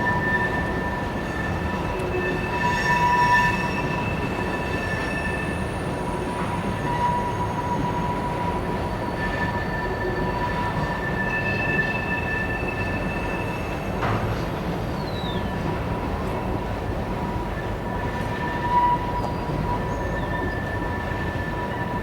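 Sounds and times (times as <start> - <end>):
train cars rumbling: 0.0 - 22.0.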